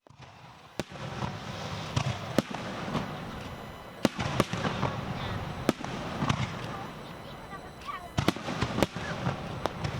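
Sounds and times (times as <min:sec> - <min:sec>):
softer firework bangs: 0:00.0 - 0:09.9
steady rumble: 0:01.4 - 0:09.9.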